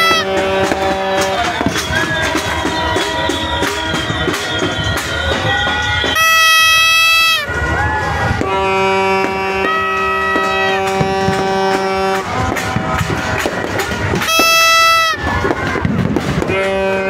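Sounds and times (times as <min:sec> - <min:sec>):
crowd: 0:00.0 - 0:17.0
fireworks popping and crackling: 0:00.0 - 0:17.0
long horn-like notes: 0:00.0 - 0:17.0.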